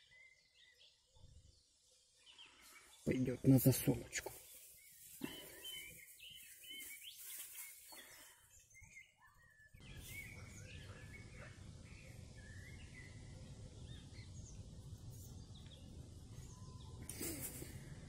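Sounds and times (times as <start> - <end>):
songbird chirps and warbles: 0.0 - 18.0.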